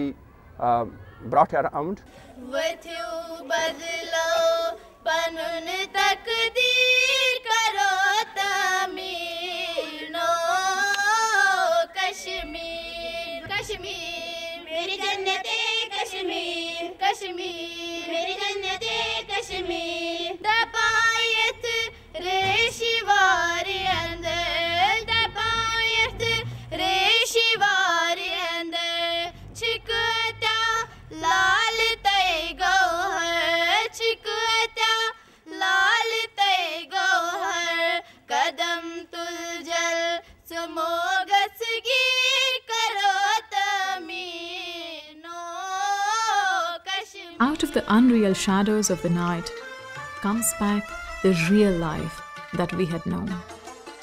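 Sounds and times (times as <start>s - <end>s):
girls singing together: 2.1s - 48.3s.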